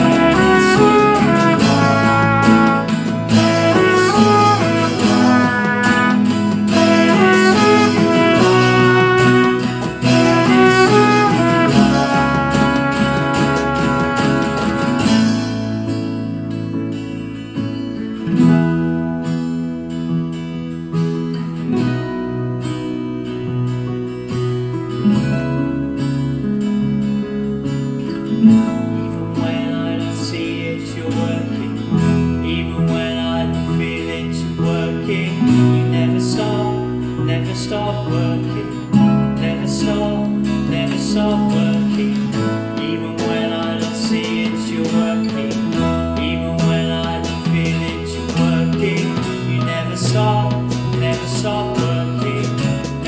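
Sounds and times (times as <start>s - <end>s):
bass guitar: 0.0s - 53.0s
piano: 0.0s - 53.0s
strummed acoustic guitar: 0.0s - 53.0s.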